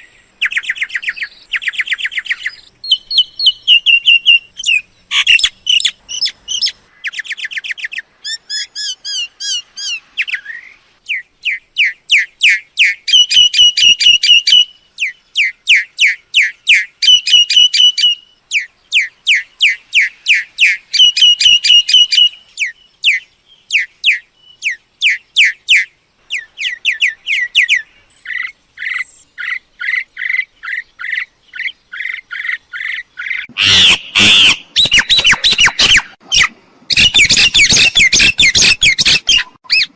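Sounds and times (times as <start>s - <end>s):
harsh rasping bird call: 0.0s - 23.2s, 23.8s - 39.9s
bird whistled notes and chatter: 0.0s - 39.9s.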